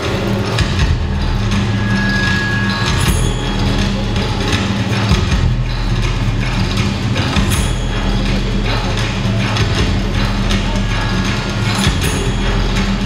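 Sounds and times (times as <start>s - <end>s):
loud performance music: 0.0s - 13.0s
low drone: 0.0s - 13.0s
sharp percussive hits: 0.0s - 13.0s.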